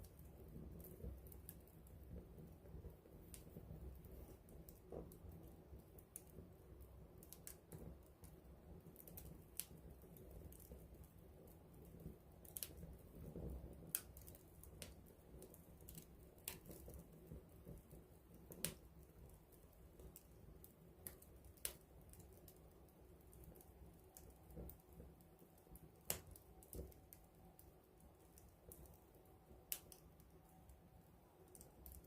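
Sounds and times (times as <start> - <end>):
campfire crackling and popping: 0.0 - 32.0
low rumble of flames: 0.0 - 32.0.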